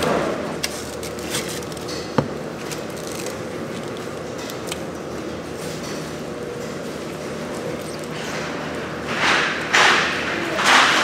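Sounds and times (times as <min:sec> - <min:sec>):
factory hum: 0:00.0 - 0:11.0.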